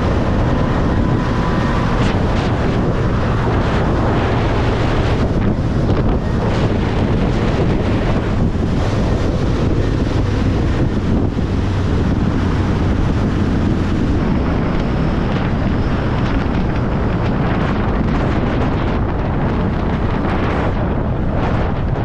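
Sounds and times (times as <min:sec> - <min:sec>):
low engine hum: 0:00.0 - 0:22.0
road and wind noise: 0:00.0 - 0:22.0.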